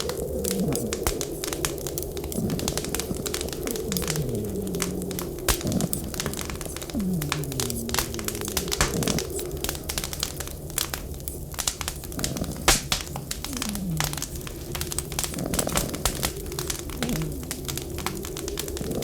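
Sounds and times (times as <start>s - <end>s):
wind rumbling and howling: 0.0s - 19.0s
wood fire crackling and popping: 0.0s - 19.0s.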